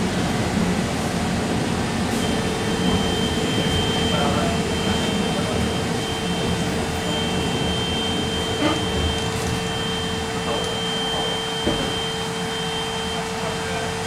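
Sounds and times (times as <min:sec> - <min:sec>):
trolleybus electrical whine and hum: 0:00.0 - 0:14.0.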